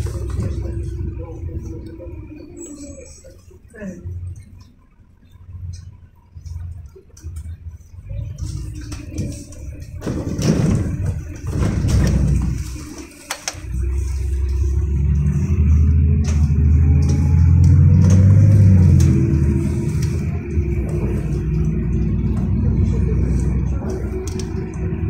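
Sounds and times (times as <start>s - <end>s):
bus engine hum: 0.0s - 25.0s.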